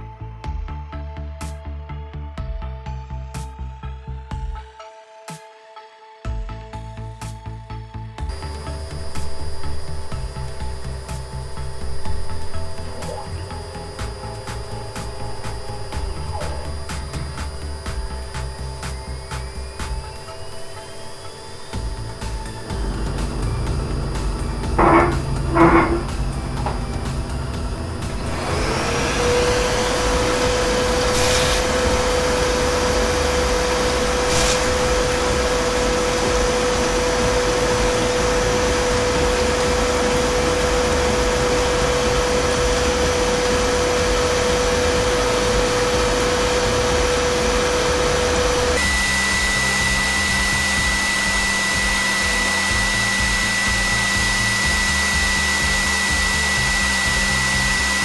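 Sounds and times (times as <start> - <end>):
milling spindle whirring hiss: 8.3 - 58.0
stepper motor whining: 8.3 - 58.0.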